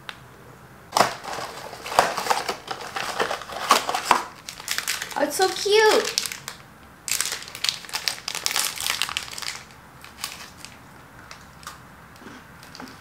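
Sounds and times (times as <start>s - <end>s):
plastic wrapper crinkling: 0.9s - 11.8s.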